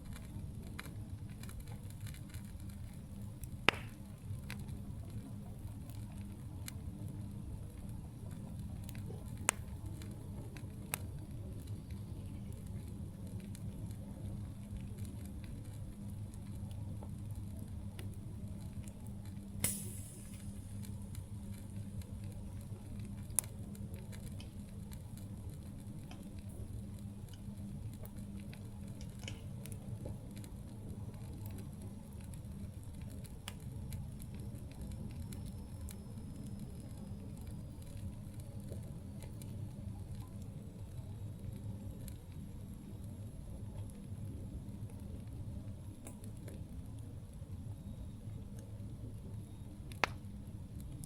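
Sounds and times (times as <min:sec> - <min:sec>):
campfire flame rumble: 0:00.0 - 0:51.0
fire crackles: 0:00.0 - 0:51.0
wood fire popping with hiss: 0:00.0 - 0:51.0.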